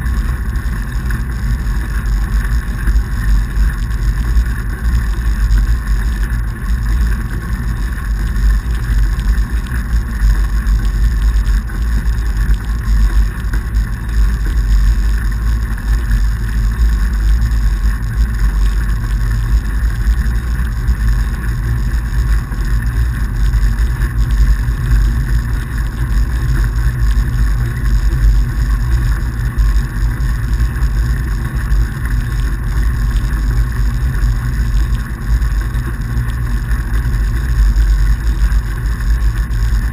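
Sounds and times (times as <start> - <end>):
bike tyres rolling on snow: 0.0 - 39.9.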